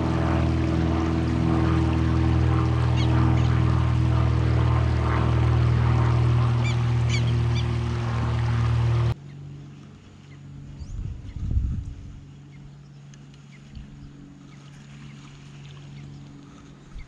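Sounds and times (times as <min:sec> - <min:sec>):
loud low hum: 0:00.0 - 0:17.0.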